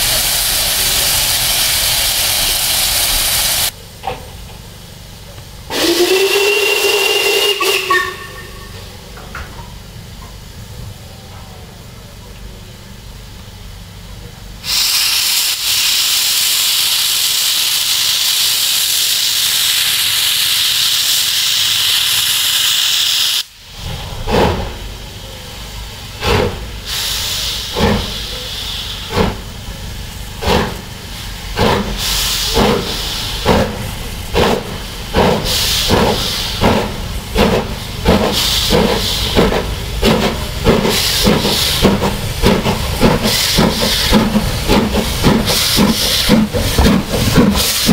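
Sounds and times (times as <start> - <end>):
steam hissing from locomotive: 0.0 - 11.3, 14.6 - 47.9
steam locomotive exhaust beats: 0.0 - 47.9.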